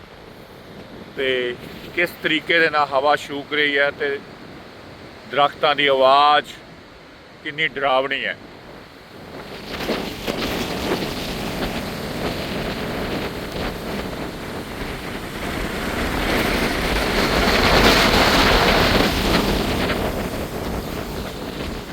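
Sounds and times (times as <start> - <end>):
wind buffeting microphone: 0.0 - 7.4, 8.2 - 21.9
strong wind rushing through trees: 0.0 - 21.9.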